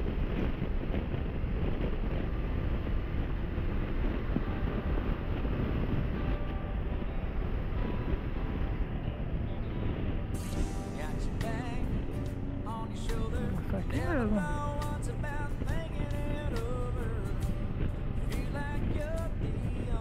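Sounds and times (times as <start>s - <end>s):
motorcycle engine and tyres: 0.0s - 20.0s
wind rush over microphone: 0.0s - 20.0s.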